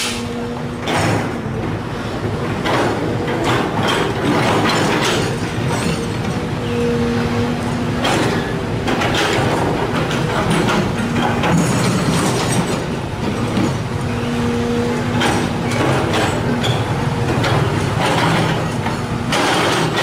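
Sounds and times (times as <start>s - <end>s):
excavator diesel engine running: 0.0s - 20.0s
metallic clanks and squeals: 3.4s - 20.0s.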